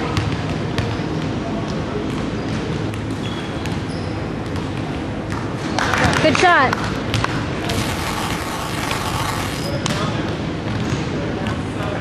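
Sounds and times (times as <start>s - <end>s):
gym background noise: 0.0s - 12.0s.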